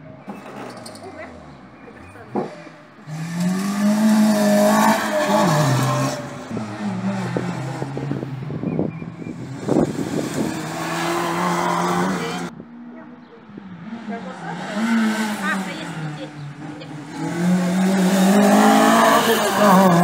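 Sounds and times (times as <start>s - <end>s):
rally car engine at high revs: 0.3s - 20.0s.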